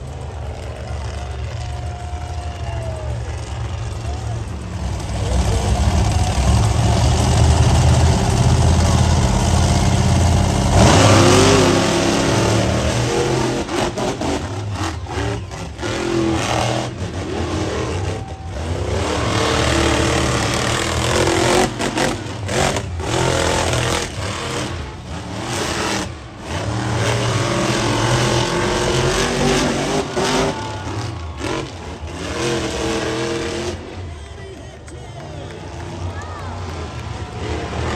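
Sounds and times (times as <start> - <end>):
monster truck engine revving: 0.0 - 37.9.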